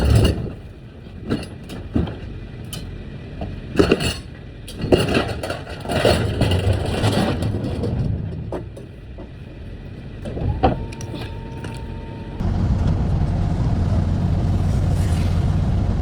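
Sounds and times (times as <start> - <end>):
truck engine rumble: 0.0 - 16.0.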